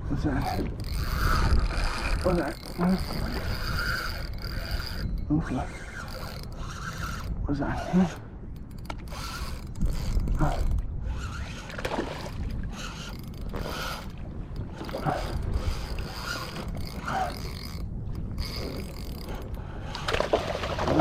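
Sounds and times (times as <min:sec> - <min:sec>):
wind rumbling on microphone: 0:00.0 - 0:21.0
fishing reel clicking and whirring: 0:00.2 - 0:20.2.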